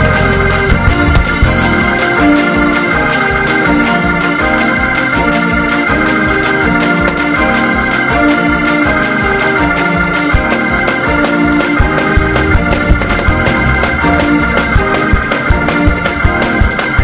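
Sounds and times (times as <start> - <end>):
fast driving beat: 0.0 - 17.0
organ chords: 0.0 - 17.0.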